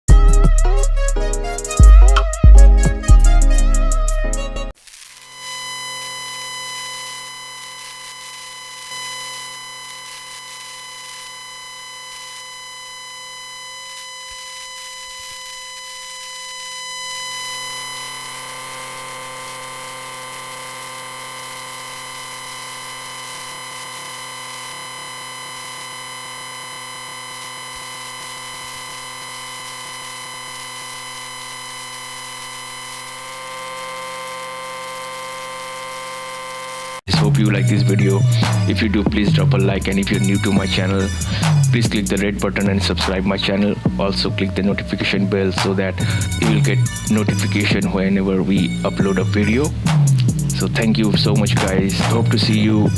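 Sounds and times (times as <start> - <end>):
tesla coil electric buzz: 0.0 - 52.9.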